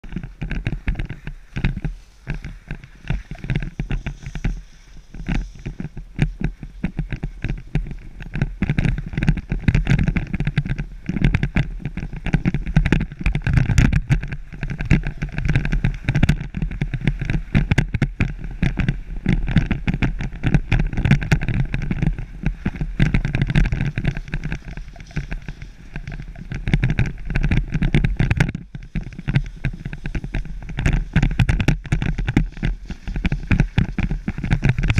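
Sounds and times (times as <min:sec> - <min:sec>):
skis scraping on packed snow: 0:00.0 - 0:34.9
wind buffeting microphone: 0:00.0 - 0:34.9.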